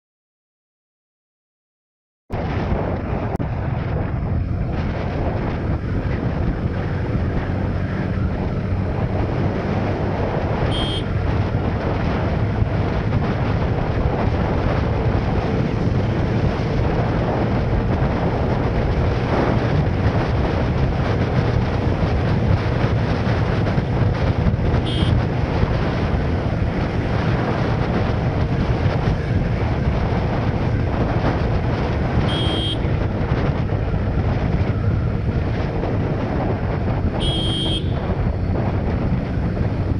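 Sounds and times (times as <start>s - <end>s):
road noise: 2.3s - 39.9s
wind buffeting microphone: 2.3s - 39.9s
motorcycle engine cruising: 2.7s - 39.9s.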